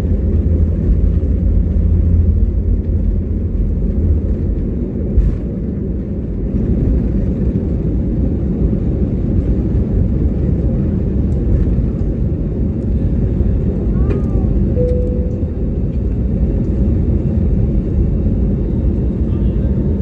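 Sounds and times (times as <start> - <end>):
jet engines deep rumble: 0.0 - 20.0.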